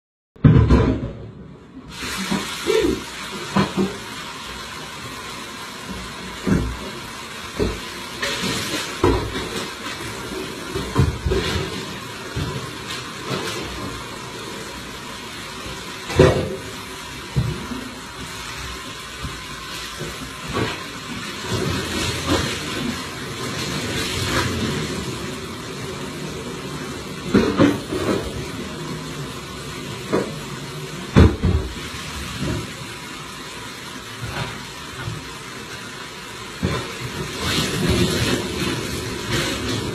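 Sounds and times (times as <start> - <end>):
tap water running: 1.9 - 39.9.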